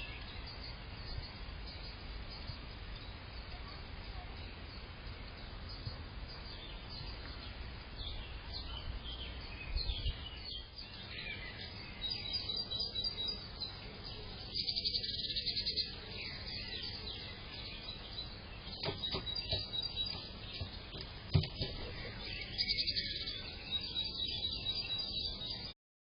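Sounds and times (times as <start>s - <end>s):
bird trill: 0.0s - 25.8s
small birds chirping: 0.0s - 25.8s.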